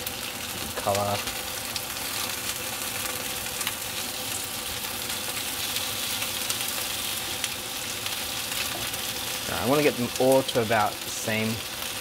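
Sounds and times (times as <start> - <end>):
chicken wings sizzling in pan: 0.0 - 12.0.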